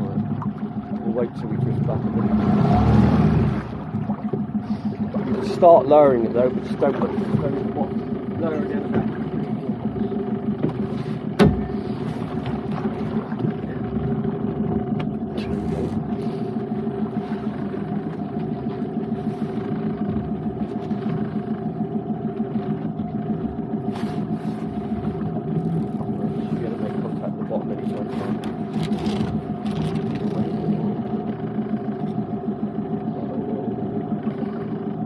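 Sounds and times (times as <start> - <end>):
outboard motor idling: 0.0 - 35.0.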